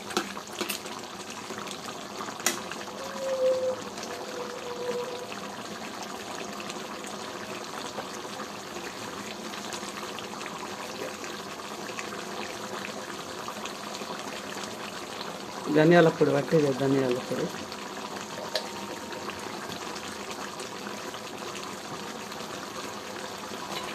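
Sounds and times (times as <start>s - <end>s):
curry bubbling and popping: 0.0s - 23.9s.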